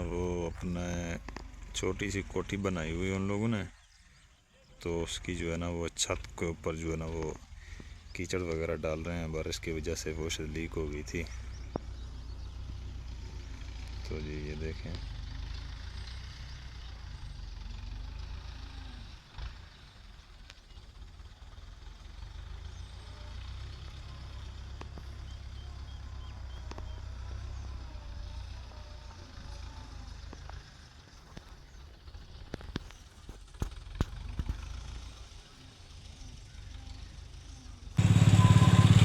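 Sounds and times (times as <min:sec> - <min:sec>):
distant tractor engine rumbling: 0:00.0 - 0:39.0.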